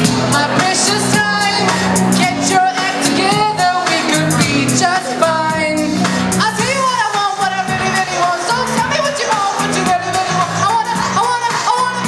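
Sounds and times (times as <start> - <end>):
pop song with vocals: 0.0 - 12.0.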